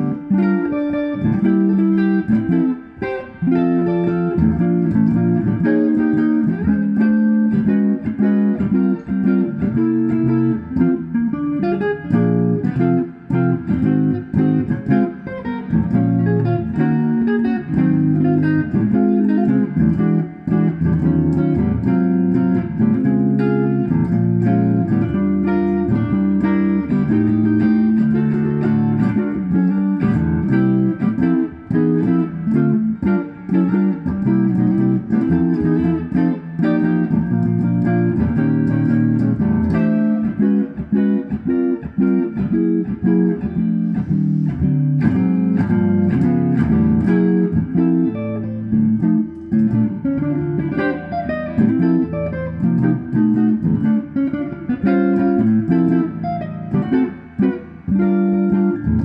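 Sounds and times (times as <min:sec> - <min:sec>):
electric jazz guitar ballad: 0:00.0 - 0:59.0.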